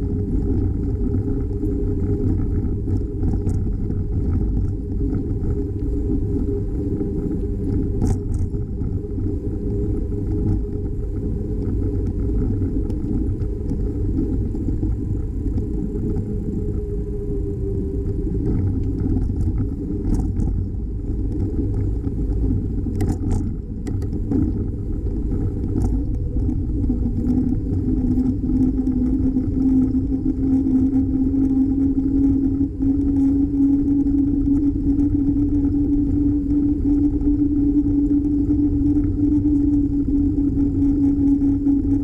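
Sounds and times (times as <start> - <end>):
rising hum: 0.0 - 42.0
wind and road noise on bicycle: 0.0 - 42.0.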